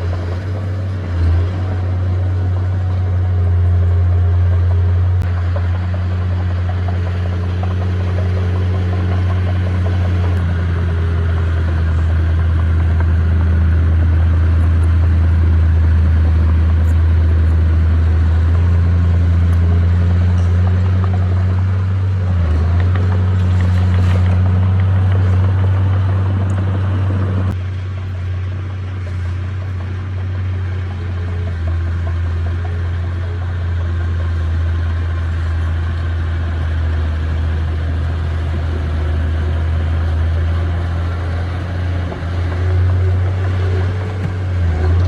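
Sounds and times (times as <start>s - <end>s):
heavy diesel engine humming: 0.0s - 45.0s.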